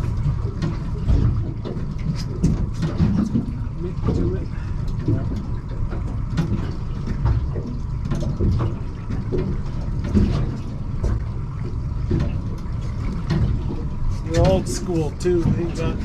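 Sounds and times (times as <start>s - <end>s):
low rumble: 0.0s - 16.0s
water sloshing against boat hull: 0.0s - 16.0s.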